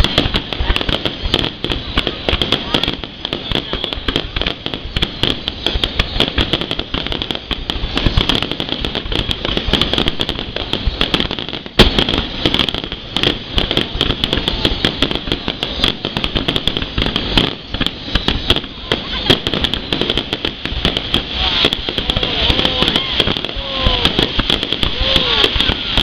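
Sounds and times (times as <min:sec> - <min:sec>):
fireworks popping and crackling: 0:00.0 - 0:26.0
loud firework bang: 0:00.0 - 0:26.0.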